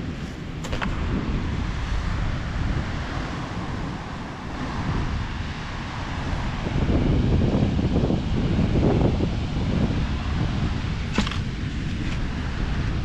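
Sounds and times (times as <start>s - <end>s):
ocean surf: 0.0s - 13.0s
wind noise on microphone: 0.0s - 13.0s.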